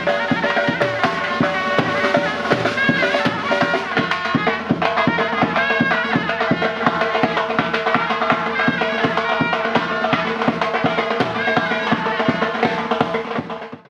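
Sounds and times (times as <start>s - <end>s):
drum beat: 0.0s - 13.8s
shawm playing melody: 0.0s - 13.8s.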